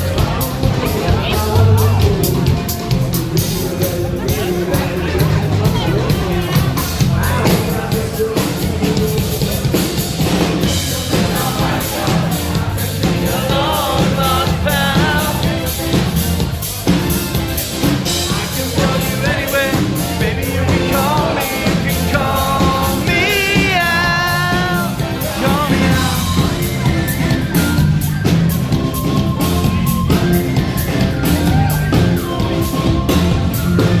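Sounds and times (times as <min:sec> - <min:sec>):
drum kit: 0:00.0 - 0:34.0
live rock band playing: 0:00.0 - 0:34.0.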